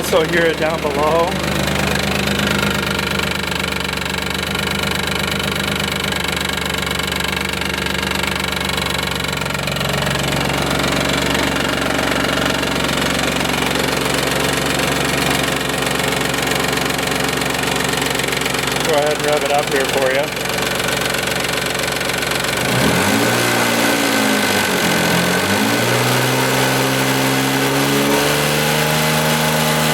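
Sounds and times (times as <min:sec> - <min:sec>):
car engine idling: 0:00.0 - 0:29.9
fast engine knocking: 0:00.0 - 0:29.9.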